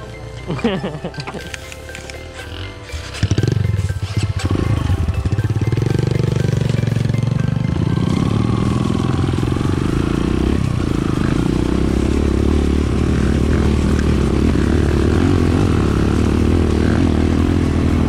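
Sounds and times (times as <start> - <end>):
dirt bike engine running: 0.6 - 18.0.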